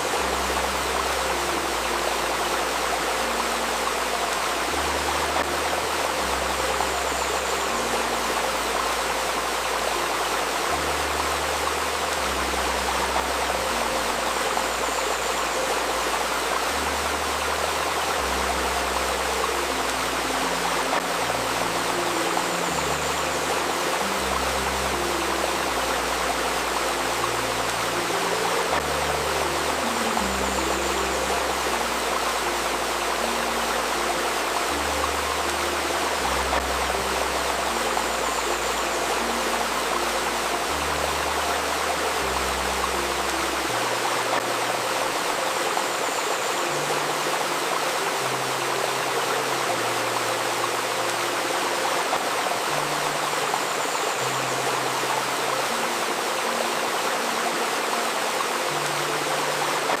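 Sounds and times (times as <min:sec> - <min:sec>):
river stream babbling: 0:00.0 - 1:00.0
soft low sustained music tones: 0:00.0 - 1:00.0.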